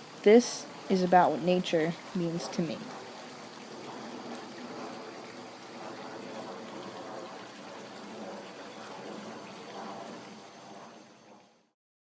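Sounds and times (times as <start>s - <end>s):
water trickling: 0.0s - 11.6s.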